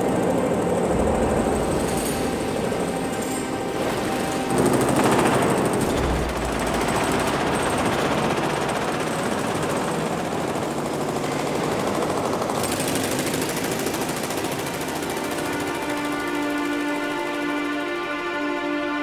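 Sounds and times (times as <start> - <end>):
rapid mechanical hammering: 0.0 - 17.9.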